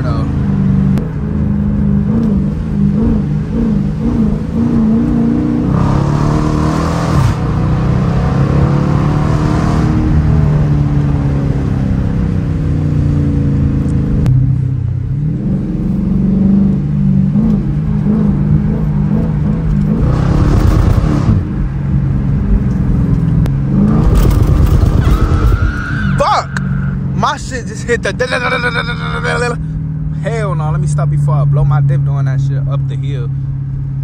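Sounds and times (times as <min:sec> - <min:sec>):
car engine accelerating hard: 0:00.0 - 0:32.9.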